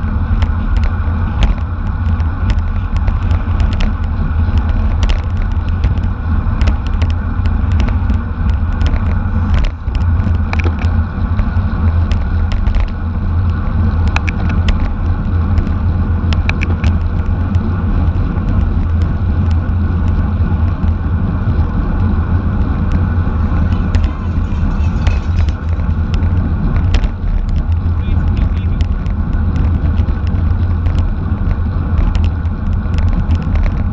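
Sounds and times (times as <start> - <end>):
bicycle clicks and rattles: 0.0 - 33.9
wind rumble on microphone: 0.0 - 33.9.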